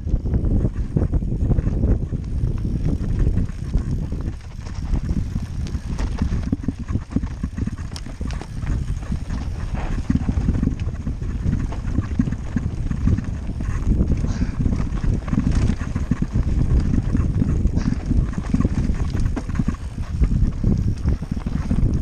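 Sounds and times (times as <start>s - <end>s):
bike clicks and rattles: 0.0s - 22.0s
tyre rumble: 0.0s - 22.0s
wind buffeting microphone: 0.0s - 22.0s.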